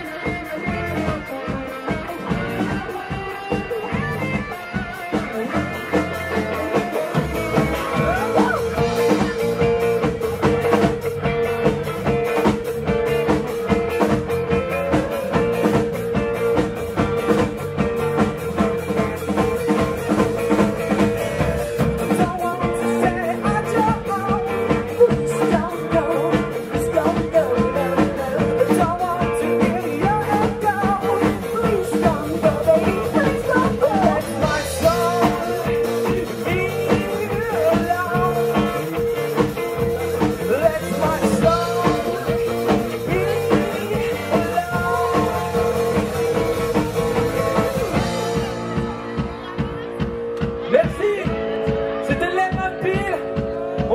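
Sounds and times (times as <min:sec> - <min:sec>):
drum kit fast beat: 0:00.0 - 0:53.9
guitar: 0:00.0 - 0:53.9.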